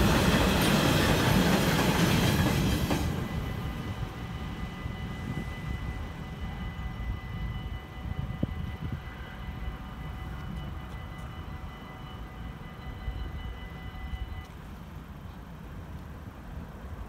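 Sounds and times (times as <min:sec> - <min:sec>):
level crossing warning bells: 0:00.0 - 0:15.3.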